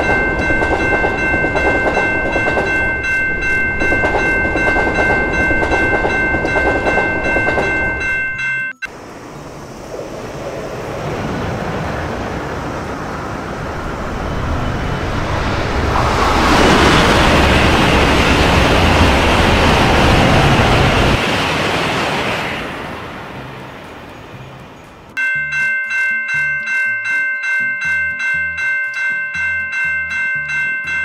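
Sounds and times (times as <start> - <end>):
train passing with rushing rumble: 0.0 - 31.0.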